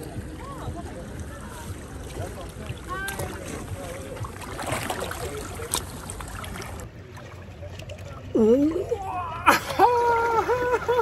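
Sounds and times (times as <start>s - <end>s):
sea water sloshing around legs: 0.0s - 11.0s.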